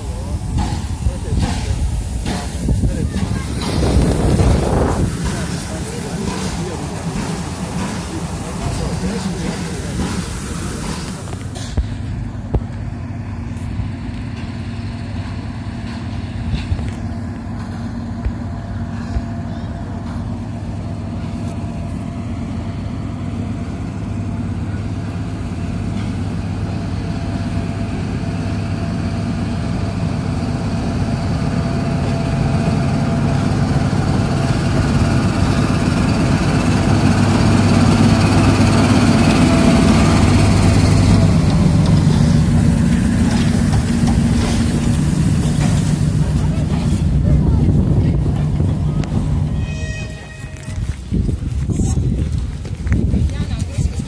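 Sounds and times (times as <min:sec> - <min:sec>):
train engine hum: 0:00.0 - 0:54.0.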